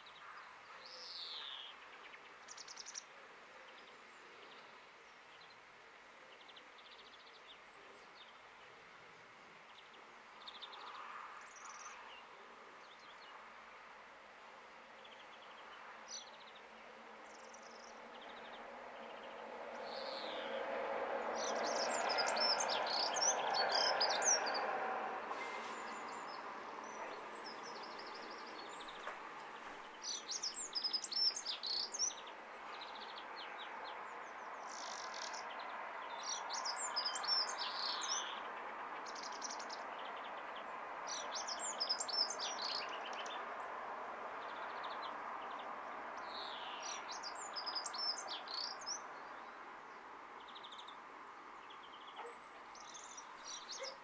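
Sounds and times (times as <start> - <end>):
songbird singing: 0.0 - 13.5, 14.9 - 54.0.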